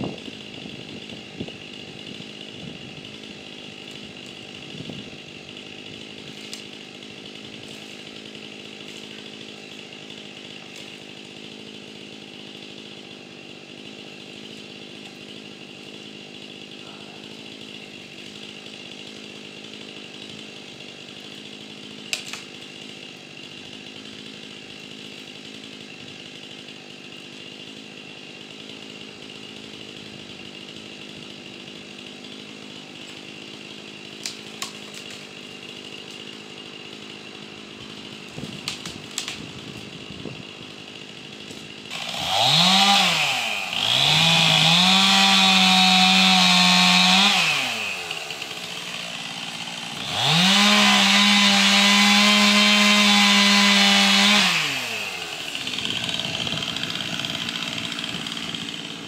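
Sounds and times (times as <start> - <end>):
chainsaw running: 0.0 - 59.0.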